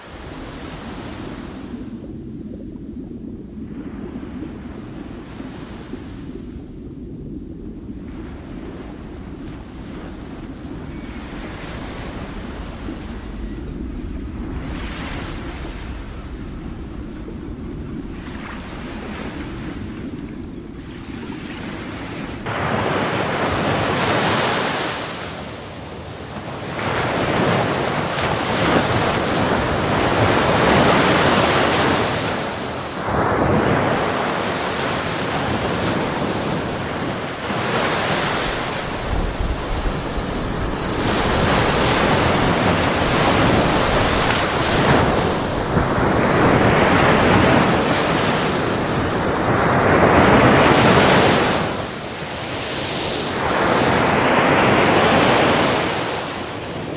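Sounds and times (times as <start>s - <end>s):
sea waves breaking on shore: 0.0s - 2.4s, 7.9s - 56.9s
wind buffeting microphone: 0.0s - 56.9s.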